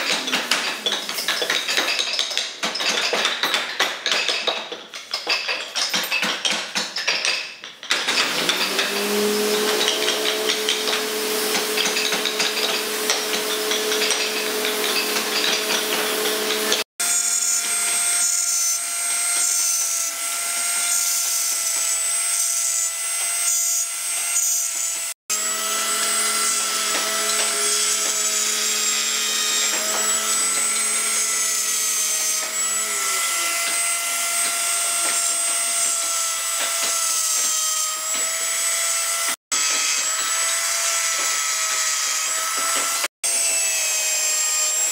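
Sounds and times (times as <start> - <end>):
die grinder carving wood: 0.0 - 7.0, 7.8 - 44.9.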